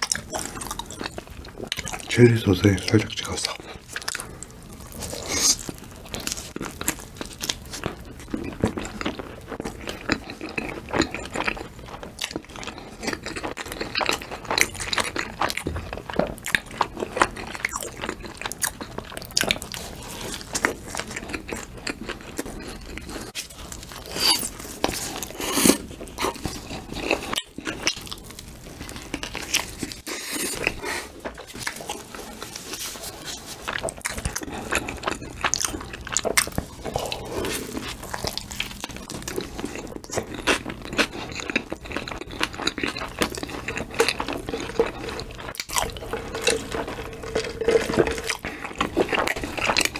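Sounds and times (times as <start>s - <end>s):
crunching and chewing fried food: 0.0s - 49.9s.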